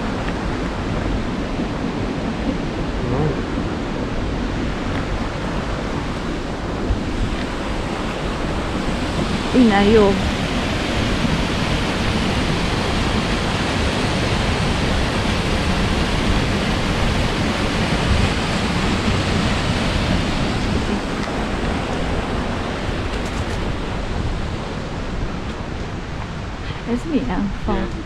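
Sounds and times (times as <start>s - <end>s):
fast-flowing water rushing: 0.0s - 28.0s.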